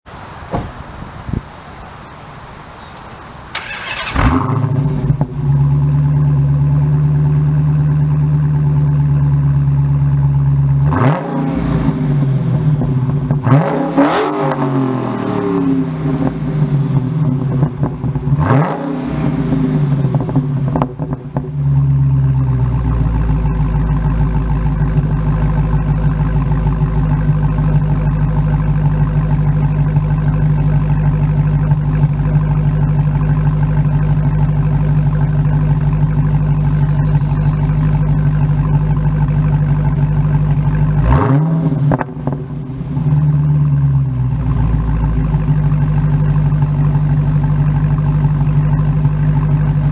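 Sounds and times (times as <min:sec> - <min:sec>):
car engine idling and revving: 0:02.6 - 0:49.9.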